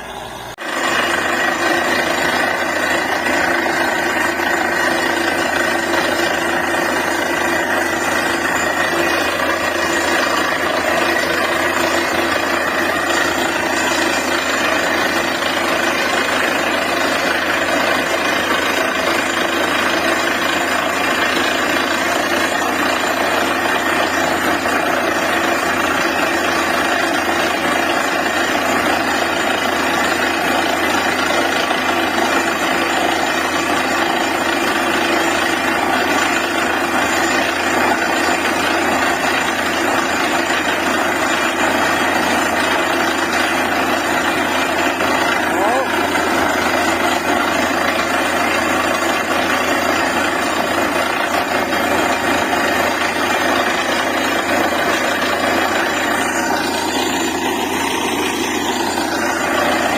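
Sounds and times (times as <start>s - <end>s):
drilling rig engine and compressor: 0.0s - 59.9s.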